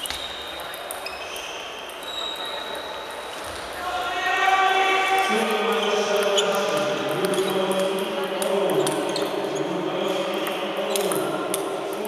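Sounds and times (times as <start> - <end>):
faint clicks from other tables: 0.0 - 3.6, 5.2 - 12.0.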